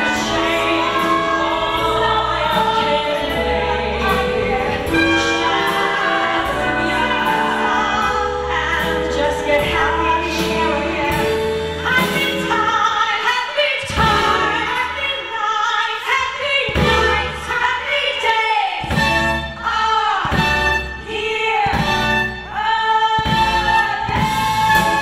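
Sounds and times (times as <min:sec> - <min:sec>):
live band playing: 0:00.0 - 0:15.1, 0:18.8 - 0:25.0
women singing a duet: 0:00.0 - 0:25.0.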